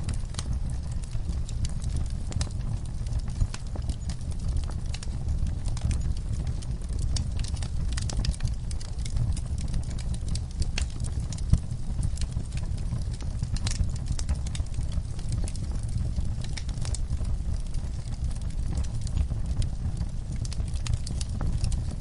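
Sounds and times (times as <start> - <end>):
fire low rumble: 0.0 - 22.0
wood fire crackling and popping: 0.0 - 22.0.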